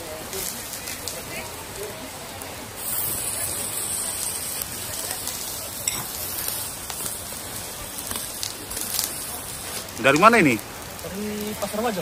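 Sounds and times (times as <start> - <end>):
fire crackling: 0.0 - 12.0
fish sizzling on a grill: 0.0 - 12.0.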